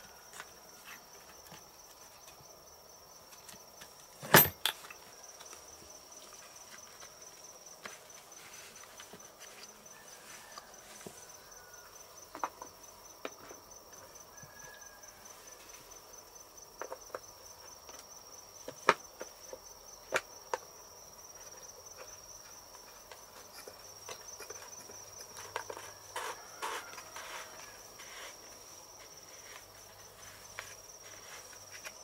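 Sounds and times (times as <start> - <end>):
insects chirring: 0.0 - 32.0.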